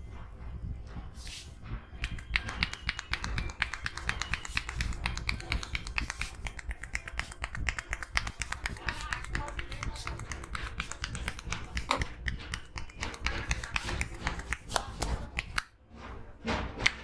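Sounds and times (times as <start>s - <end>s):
fingers snapping and tapping on head: 2.0s - 15.7s.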